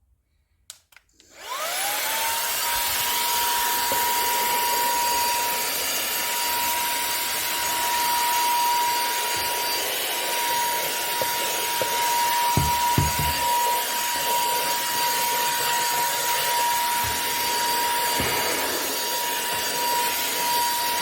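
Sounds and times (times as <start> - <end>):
handheld vacuum whining: 1.1 - 21.0.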